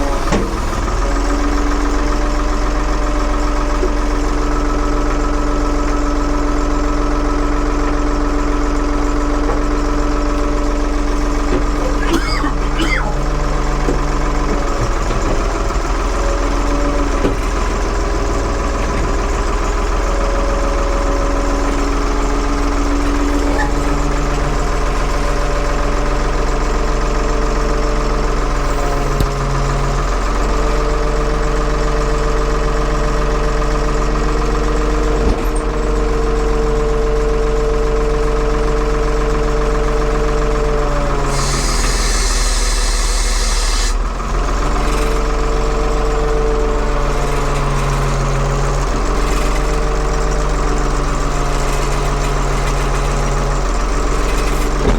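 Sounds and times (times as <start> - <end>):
backhoe engine running: 0.0 - 54.9.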